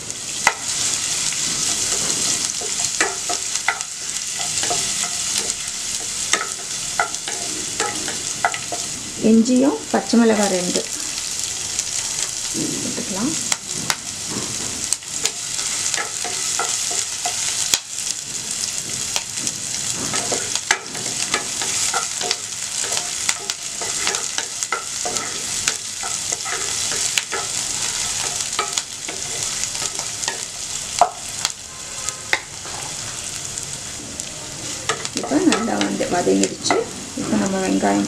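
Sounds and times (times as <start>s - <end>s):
food sizzling in hot oil: 0.0s - 38.0s.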